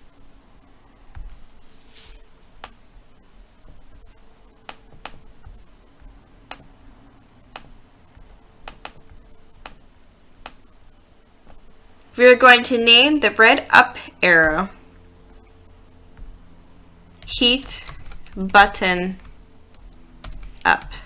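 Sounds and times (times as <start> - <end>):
faint room hum: 0.0 - 21.0.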